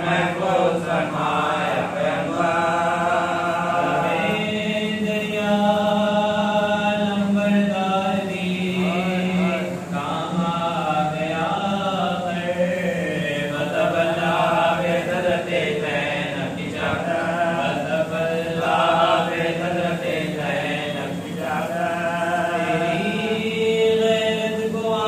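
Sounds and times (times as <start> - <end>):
men chanting: 0.0 - 25.0.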